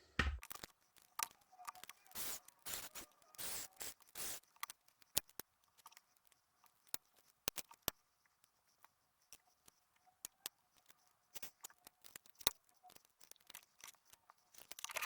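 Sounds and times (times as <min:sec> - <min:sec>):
sharp ticks: 0:00.5 - 0:15.0.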